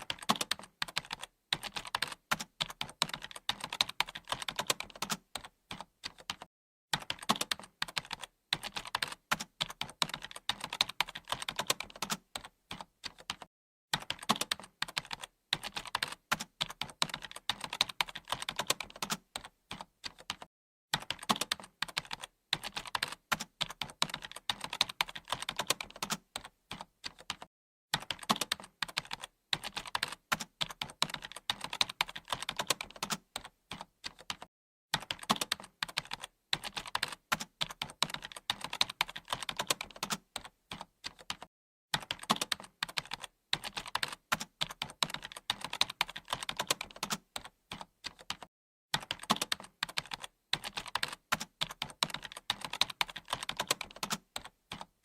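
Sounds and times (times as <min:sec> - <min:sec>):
computer keyboard typing: 0:00.0 - 0:55.0.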